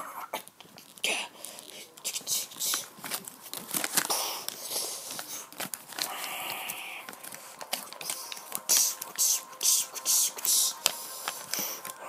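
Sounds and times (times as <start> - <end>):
mouth-made hissing effects: 0.0 - 12.0.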